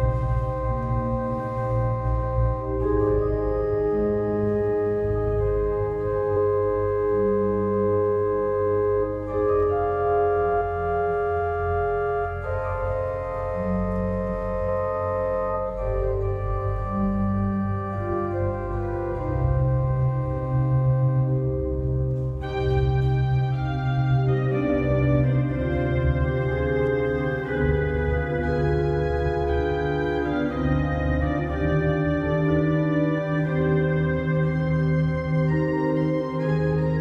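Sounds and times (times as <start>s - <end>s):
organ playing sustained chords: 0.0s - 37.0s.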